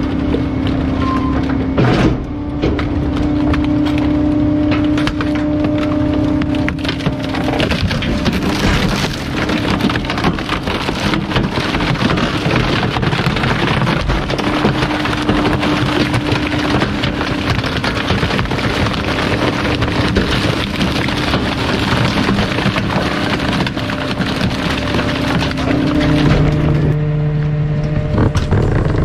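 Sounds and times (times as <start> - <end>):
mechanical hum: 0.0 - 29.0
wood snapping and splintering: 0.0 - 29.0.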